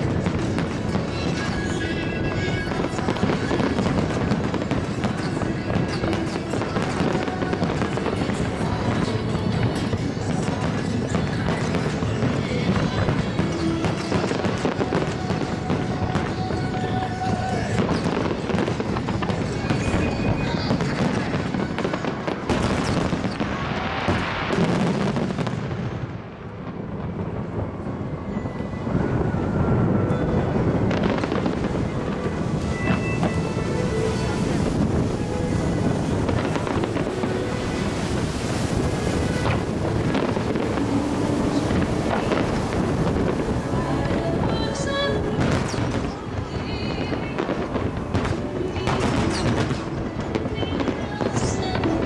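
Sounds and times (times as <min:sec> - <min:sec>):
fireworks booms: 0:00.0 - 0:52.0
fireworks cracks and pops: 0:00.0 - 0:52.0.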